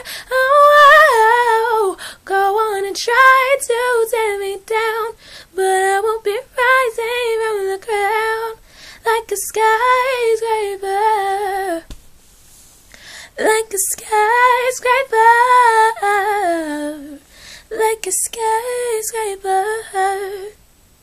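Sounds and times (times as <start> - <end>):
young woman singing: 0.0 - 11.9, 13.0 - 20.6.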